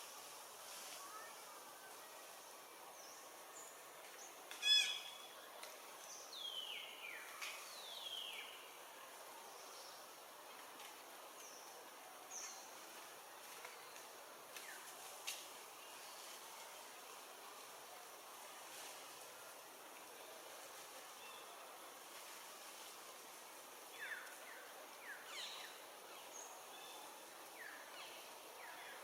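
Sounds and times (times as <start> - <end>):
background hiss: 0.0 - 29.0.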